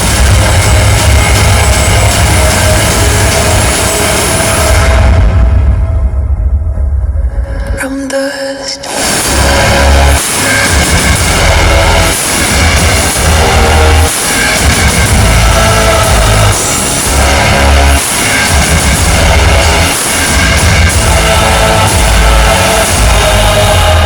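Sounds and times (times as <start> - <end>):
loud rock music: 0.0 - 7.4, 8.9 - 24.0.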